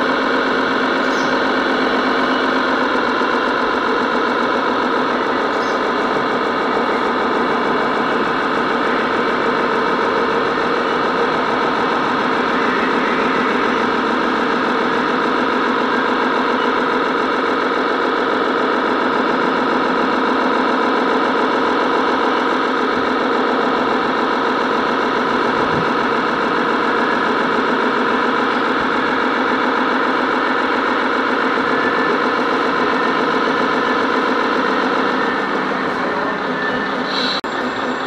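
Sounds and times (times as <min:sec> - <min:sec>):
model truck engine drone: 0:00.0 - 0:38.0.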